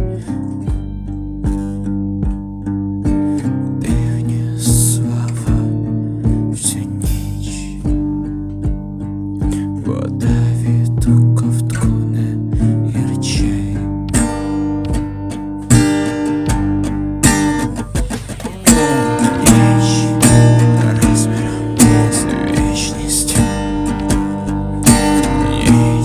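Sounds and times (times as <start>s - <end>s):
strummed acoustic guitar chords: 0.0s - 26.0s
sustained bass notes: 0.0s - 26.0s.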